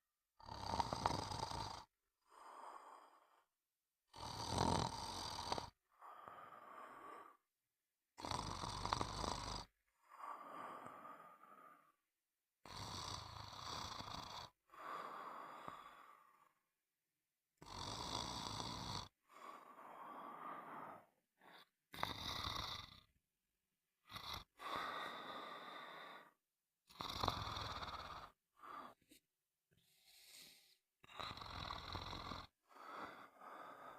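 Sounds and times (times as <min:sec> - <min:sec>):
person snoring: 0:00.4 - 0:03.5, 0:04.1 - 0:07.4, 0:08.2 - 0:12.0, 0:12.6 - 0:16.6, 0:17.6 - 0:23.2, 0:24.0 - 0:29.2, 0:29.9 - 0:33.9.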